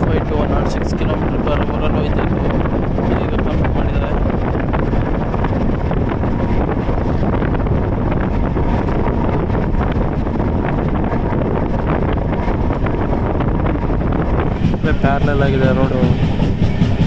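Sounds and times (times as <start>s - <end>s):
train rumbling: 0.0s - 17.0s
wind buffeting microphone: 0.0s - 17.0s.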